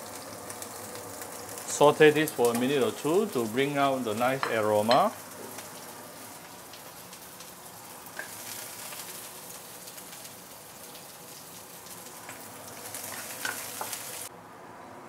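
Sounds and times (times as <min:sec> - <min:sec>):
food sizzling in hot oil: 0:00.0 - 0:14.3.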